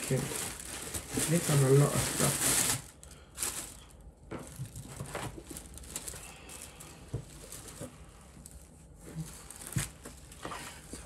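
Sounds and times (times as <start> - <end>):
tissue paper rustling: 0.0 - 11.0.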